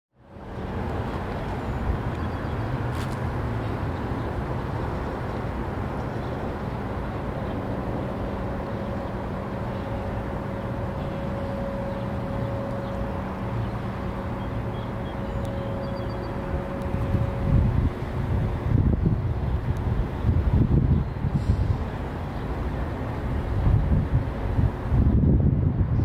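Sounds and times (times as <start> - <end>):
bridge machinery rumbling: 0.2 - 26.0.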